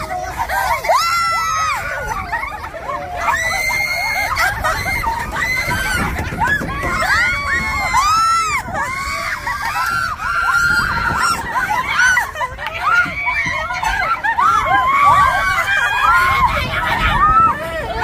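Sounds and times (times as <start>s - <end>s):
people screaming together: 0.0s - 18.0s.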